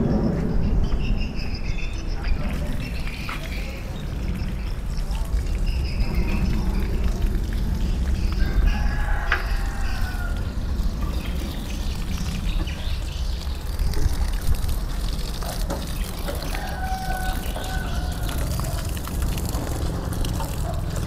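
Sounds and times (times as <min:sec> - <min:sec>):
water trickling onto ground: 0:02.0 - 0:21.0.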